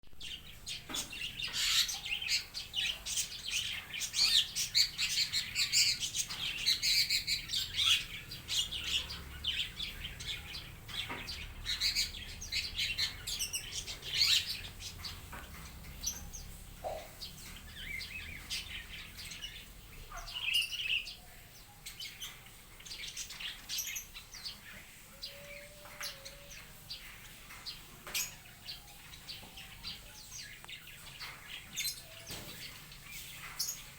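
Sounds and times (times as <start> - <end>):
small birds chirping and twittering: 0.0 - 33.9.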